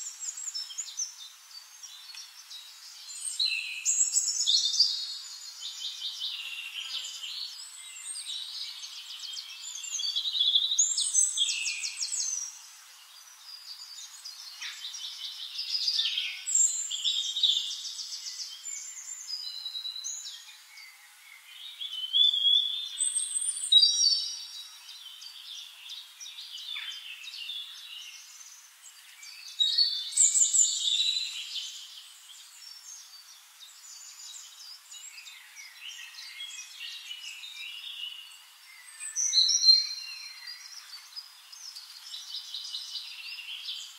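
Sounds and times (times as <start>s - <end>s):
birds singing and trilling: 0.0s - 43.9s.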